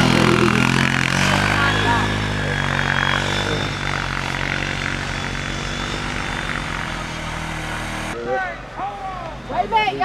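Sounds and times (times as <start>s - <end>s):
atv engine running: 0.0s - 8.4s.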